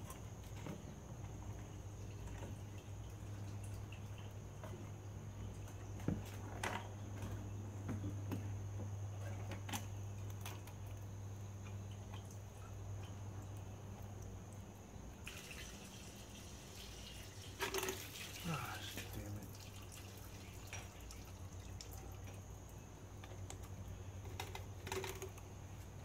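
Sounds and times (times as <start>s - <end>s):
fuel dripping and draining: 0.0s - 26.0s.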